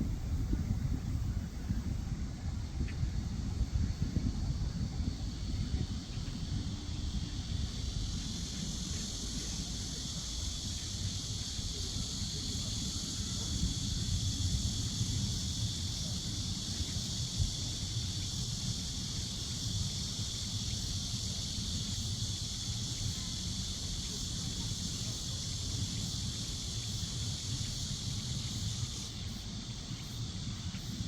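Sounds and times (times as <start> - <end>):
high-pitched hiss: 0.0 - 31.0
wind rumbling on microphone: 0.0 - 31.0.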